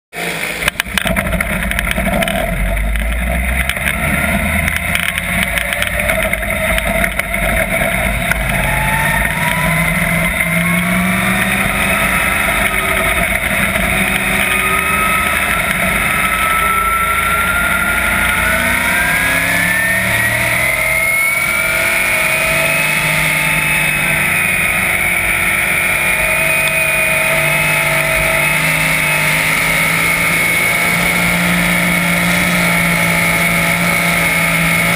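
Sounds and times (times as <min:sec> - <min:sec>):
race car engine at speed: 0:00.1 - 0:34.9.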